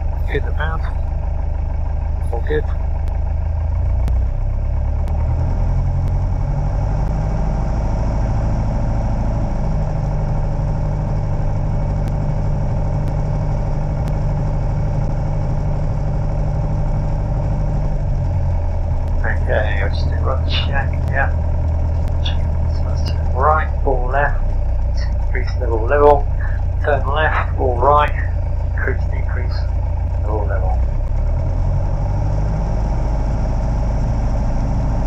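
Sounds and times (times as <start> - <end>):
piston aircraft engine running: 0.0 - 35.0.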